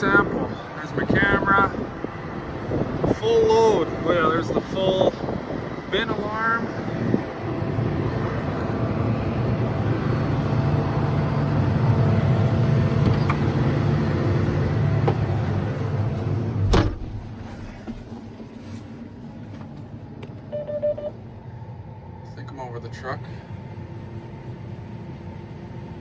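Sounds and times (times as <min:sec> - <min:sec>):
combine harvester deep drone: 0:00.0 - 0:26.0.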